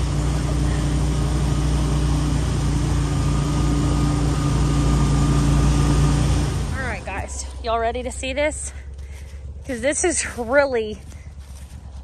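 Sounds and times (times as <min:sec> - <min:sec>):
atv engine droning: 0:00.0 - 0:12.0.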